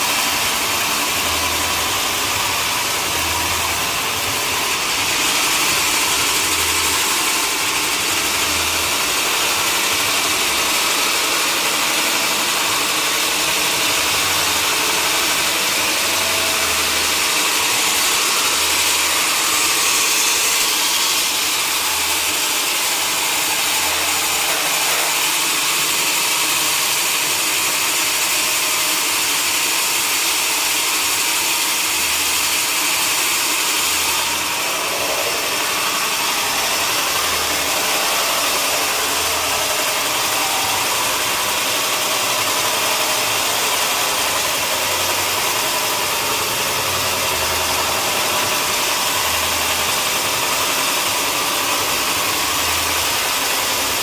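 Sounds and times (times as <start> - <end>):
sawmill machinery hissing: 0.0 - 54.0.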